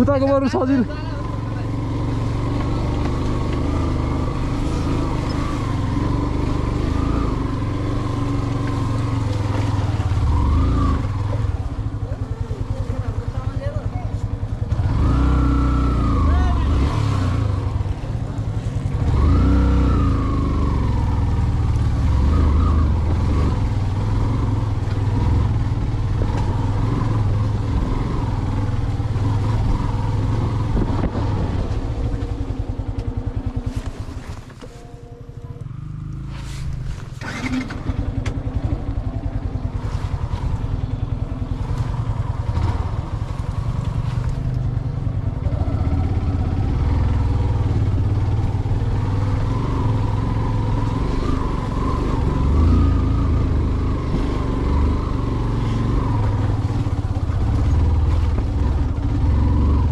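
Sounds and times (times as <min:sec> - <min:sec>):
vehicle engine under load: 0:00.0 - 0:59.9.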